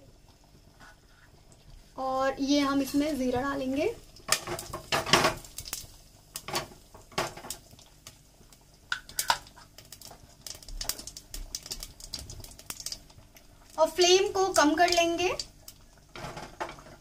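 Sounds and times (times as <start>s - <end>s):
spices popping in hot oil: 0.0s - 17.0s.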